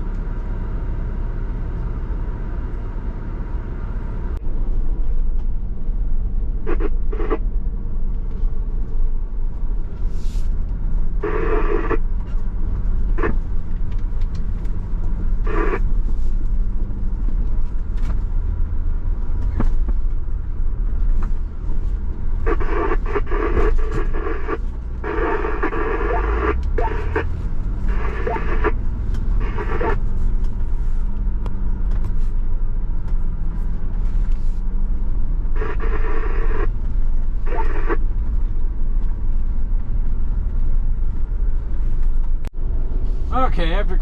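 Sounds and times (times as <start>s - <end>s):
engine low rumble: 0.0s - 44.0s.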